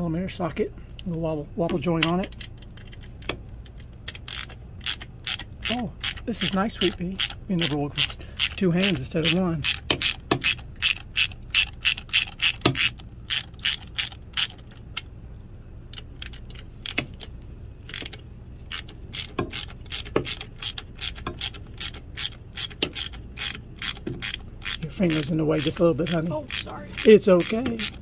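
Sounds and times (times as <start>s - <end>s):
hand ratchet clicking: 2.0s - 15.0s, 15.9s - 17.3s, 17.9s - 28.0s.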